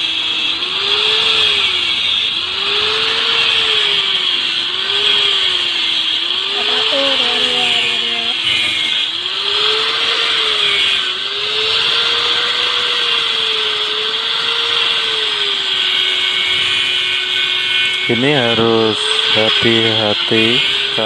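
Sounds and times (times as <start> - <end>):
angle grinder cutting steel wire: 0.0 - 21.0.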